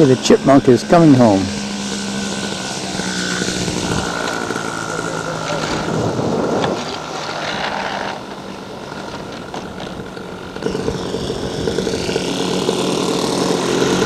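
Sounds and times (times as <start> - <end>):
model airplane engines running: 0.0 - 14.0
nearer model engine: 0.0 - 14.0.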